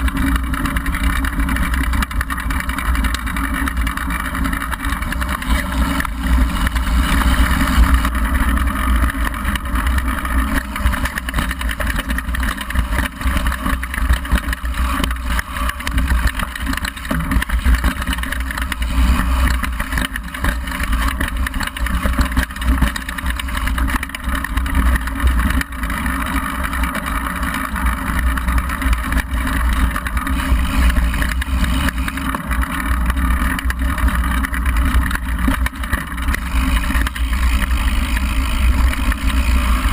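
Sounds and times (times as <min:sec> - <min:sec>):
bike knocks and rattles: 0:00.0 - 0:39.9.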